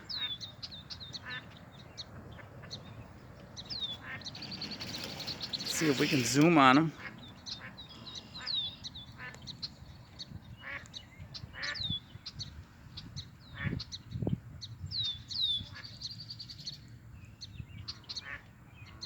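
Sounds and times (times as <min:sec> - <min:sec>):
ducklings peeping: 0:00.1 - 0:16.1.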